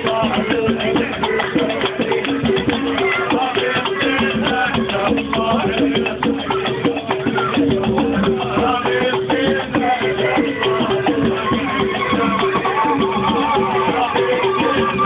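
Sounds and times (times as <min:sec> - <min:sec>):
rattling percussion: 0:00.0 - 0:15.0.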